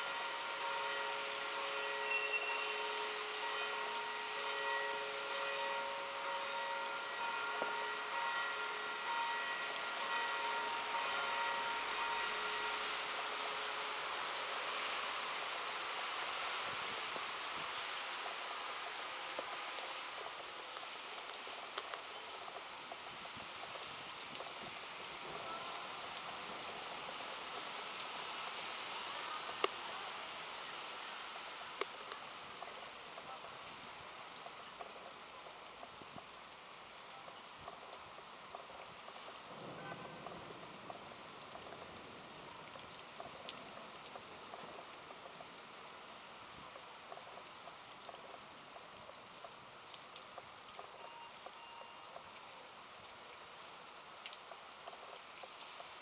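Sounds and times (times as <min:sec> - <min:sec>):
rain falling steadily: 0:00.0 - 0:56.0
raindrops ticking sharply: 0:00.0 - 0:56.0.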